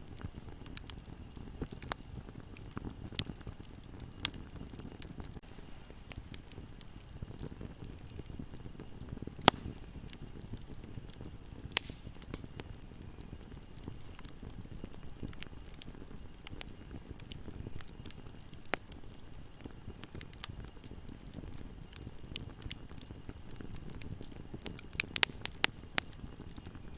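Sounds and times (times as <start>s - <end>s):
burning wood crackling pops: 0.0s - 26.9s
low rumble of flames: 0.0s - 26.9s.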